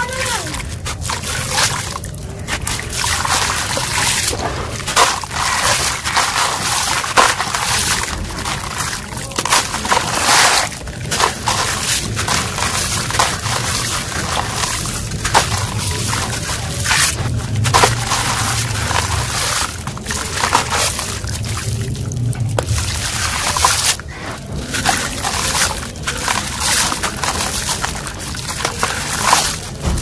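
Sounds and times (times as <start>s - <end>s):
grit splashing into water: 0.0s - 30.0s.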